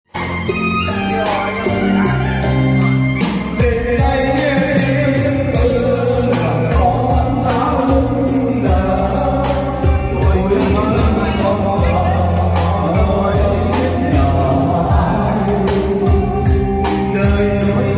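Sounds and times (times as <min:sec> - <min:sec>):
steady drum beat: 0:00.1 - 0:17.9
person singing: 0:00.2 - 0:17.9.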